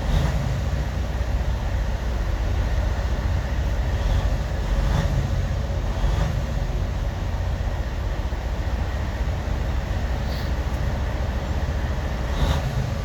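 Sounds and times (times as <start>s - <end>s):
truck motor rumbling: 0.0s - 13.0s.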